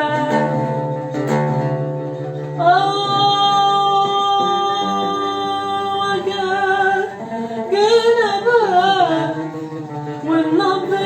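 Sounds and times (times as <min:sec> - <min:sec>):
woman singing folk song: 0:00.0 - 0:11.0.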